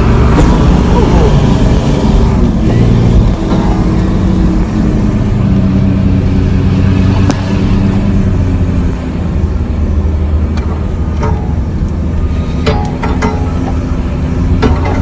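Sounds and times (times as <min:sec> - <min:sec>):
off-road vehicle engine droning: 0:00.0 - 0:15.0.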